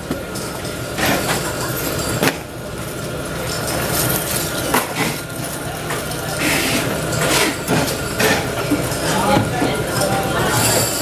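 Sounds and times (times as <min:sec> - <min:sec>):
factory background noise: 0:00.0 - 0:11.0.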